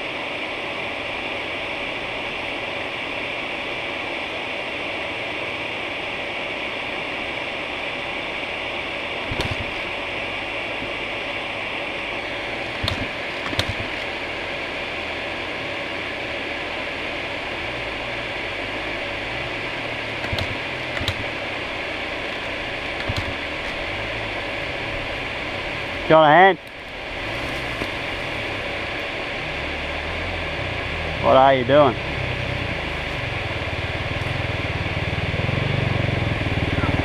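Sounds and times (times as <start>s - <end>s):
dirt bike mechanical hum: 0.0s - 37.0s.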